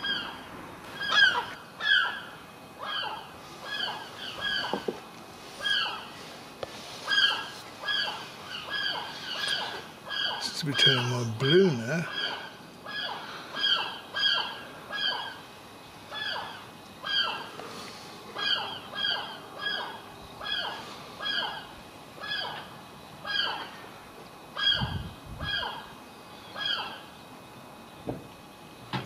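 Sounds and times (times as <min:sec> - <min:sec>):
gulls calling: 0:00.0 - 0:06.3, 0:07.0 - 0:17.6, 0:18.4 - 0:23.9, 0:24.5 - 0:27.2.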